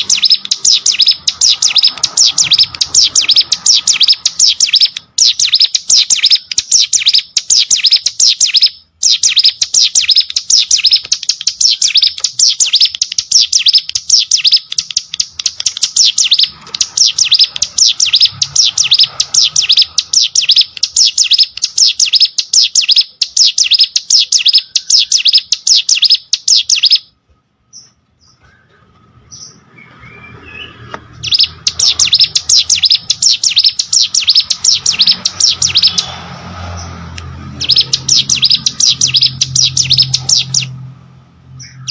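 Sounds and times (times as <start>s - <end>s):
small bird chirping song: 0.0s - 41.9s.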